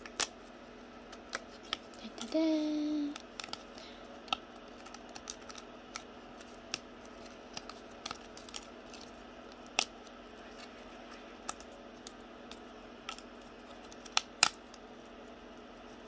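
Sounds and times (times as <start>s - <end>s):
room heater humming: 0.0s - 16.0s.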